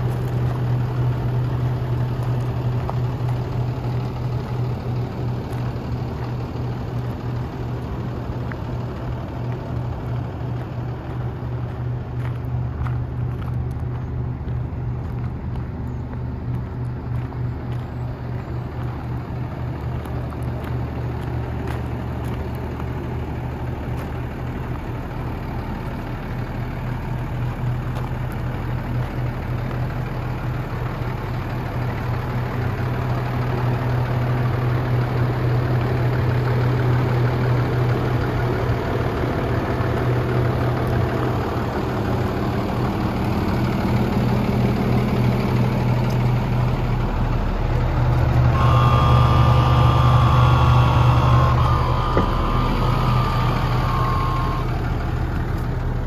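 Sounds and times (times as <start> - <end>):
diesel truck engine idling: 0.0 - 56.0
engine whine: 0.0 - 56.0.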